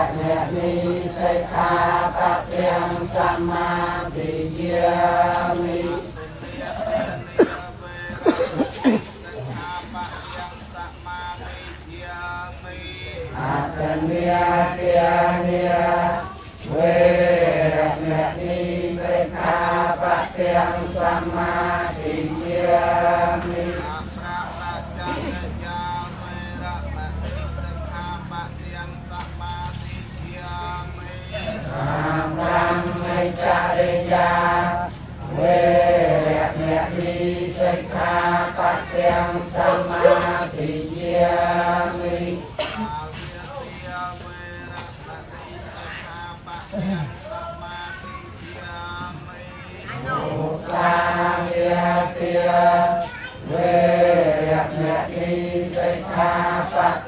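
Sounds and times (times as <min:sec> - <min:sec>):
group chanting in unison: 0:00.0 - 0:27.0, 0:31.4 - 0:43.0, 0:49.3 - 0:57.0.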